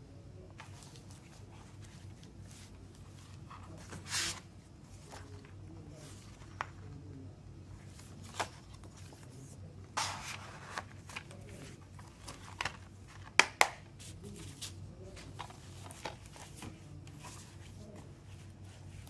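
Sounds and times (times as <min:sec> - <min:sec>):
paper booklet rustling: 0:00.5 - 0:07.1, 0:07.7 - 0:19.0.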